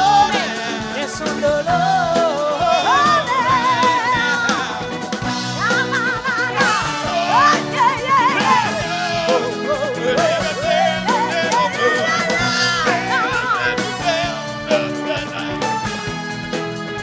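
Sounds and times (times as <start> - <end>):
pop band music: 0.0 - 17.0.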